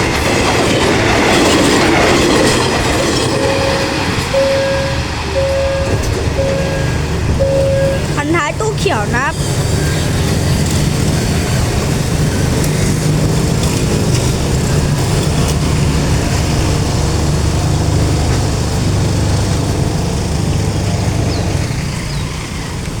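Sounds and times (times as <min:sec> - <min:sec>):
diesel train rumbling past: 0:00.0 - 0:23.0.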